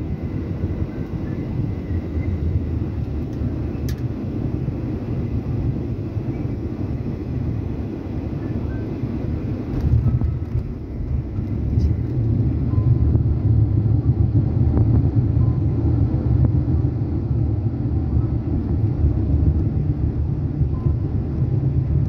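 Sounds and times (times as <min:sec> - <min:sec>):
airplane cabin rumble on runway: 0:00.0 - 0:22.0.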